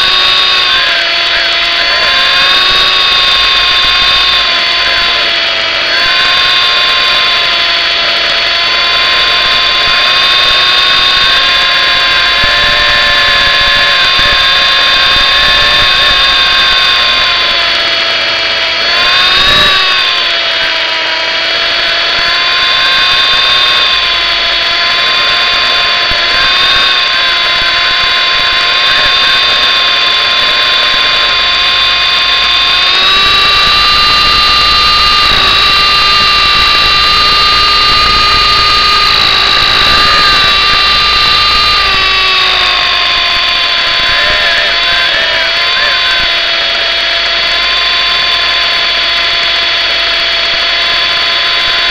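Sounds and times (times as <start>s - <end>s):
rc helicopter whine: 0.0s - 51.9s.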